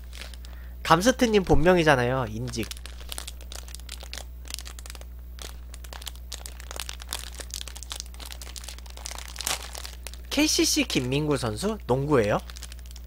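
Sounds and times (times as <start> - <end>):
low electrical hum: 0.0 - 13.0
plastic wrapper crinkling: 0.0 - 13.0.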